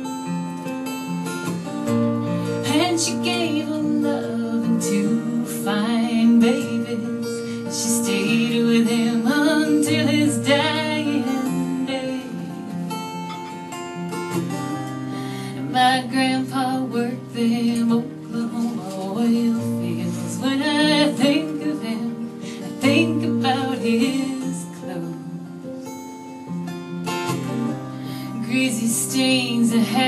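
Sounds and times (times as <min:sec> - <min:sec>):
acoustic guitar chords: 0:00.0 - 0:30.0.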